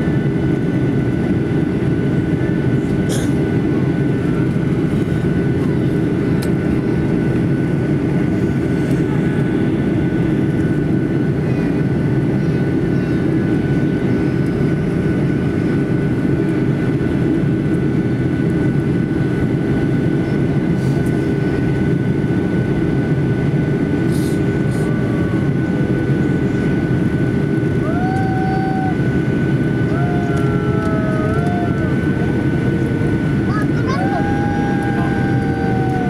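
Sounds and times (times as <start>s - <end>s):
jet engine and airflow noise: 0.0s - 36.0s.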